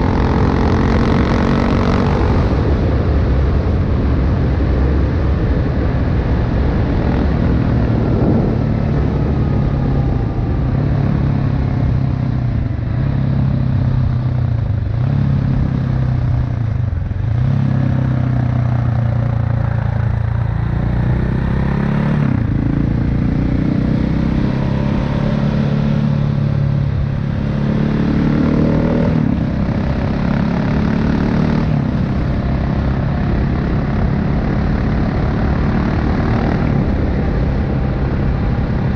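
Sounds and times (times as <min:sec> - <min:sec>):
motorcycle engine revving: 0:00.0 - 0:04.0, 0:05.8 - 0:38.9
wind and road noise: 0:00.0 - 0:38.9.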